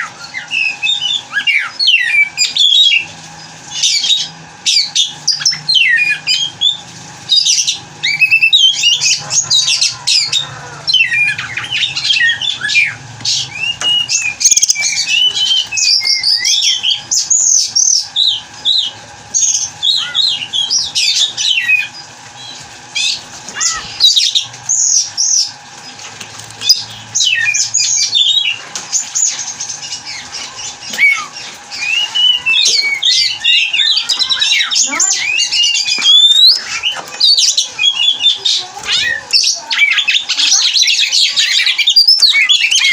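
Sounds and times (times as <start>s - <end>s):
bird singing whistles and chatter: 3.7s - 25.5s, 26.6s - 42.9s.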